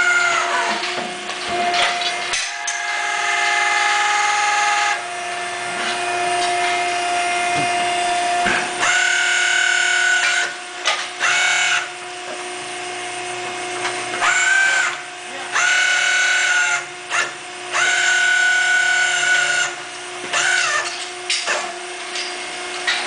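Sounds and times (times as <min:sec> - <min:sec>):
power grinder whining: 0:00.0 - 0:23.0
steady machine hum: 0:00.0 - 0:23.0.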